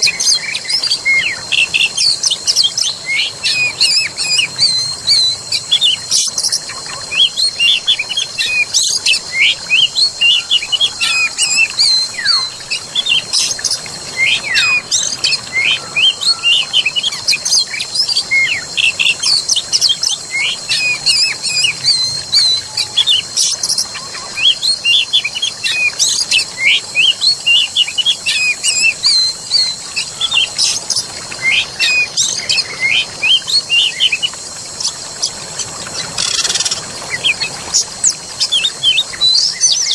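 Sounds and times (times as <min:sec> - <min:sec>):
running water: 0:00.0 - 0:39.9
small birds chirping: 0:00.0 - 0:39.9.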